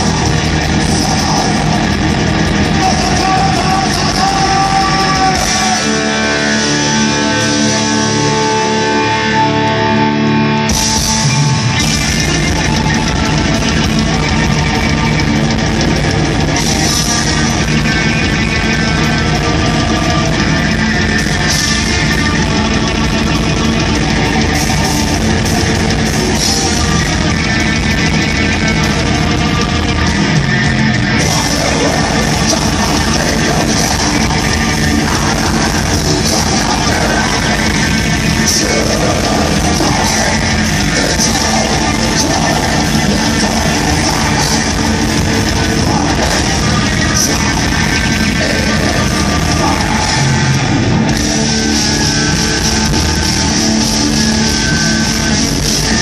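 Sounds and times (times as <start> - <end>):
distorted electric guitars: 0.0 - 56.0
drums: 0.0 - 56.0.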